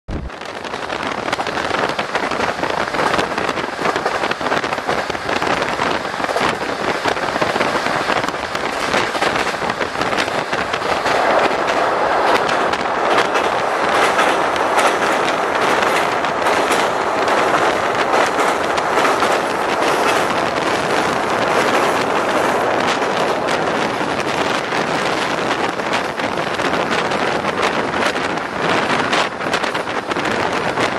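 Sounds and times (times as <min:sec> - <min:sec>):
train rumble: 0:00.1 - 0:30.9
wheels clicking and rattling: 0:00.3 - 0:30.9.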